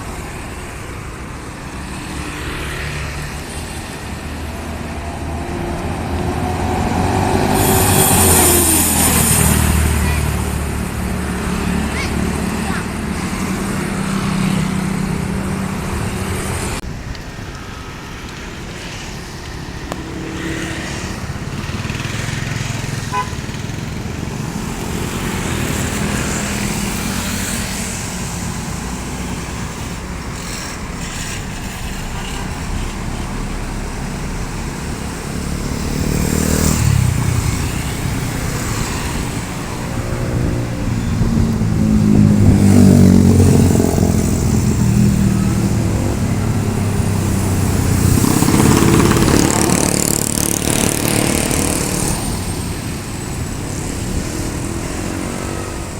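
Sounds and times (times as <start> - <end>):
vehicles passing: 0.0 - 55.9.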